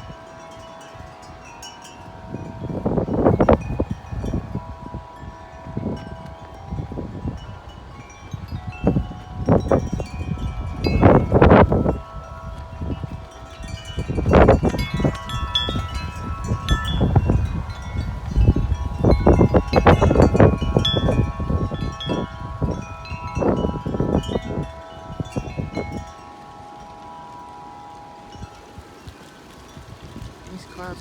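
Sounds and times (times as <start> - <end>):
wind buffeting microphone: 0.0 - 31.0
wind chime ringing: 0.0 - 31.0.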